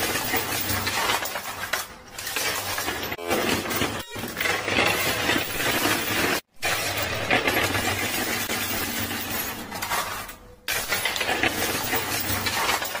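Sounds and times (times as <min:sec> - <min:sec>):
coins and chips clattering: 0:00.0 - 0:13.0.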